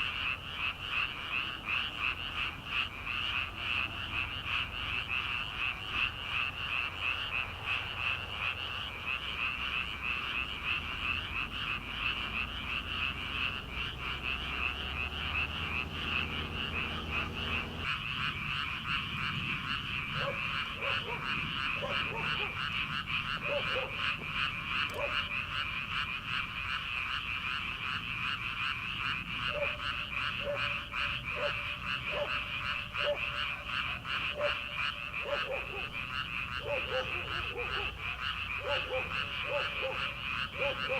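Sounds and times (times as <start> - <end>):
chorus of frogs trilling: 0.0 - 40.9
lower-pitched frog call: 0.0 - 40.9.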